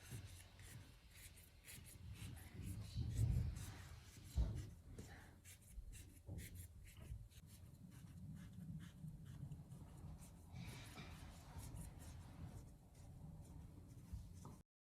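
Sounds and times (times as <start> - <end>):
faint low hum: 0.0 - 14.6
soft scraping and scratching: 0.0 - 14.6.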